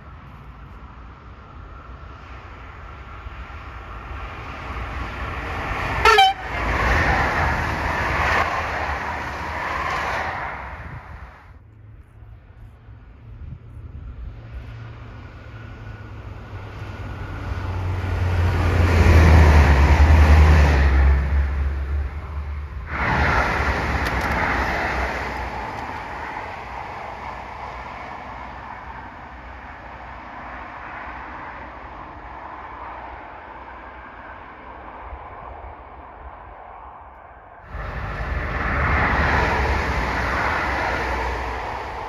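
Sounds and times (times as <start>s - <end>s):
train passing with rail noise: 0.0s - 42.0s.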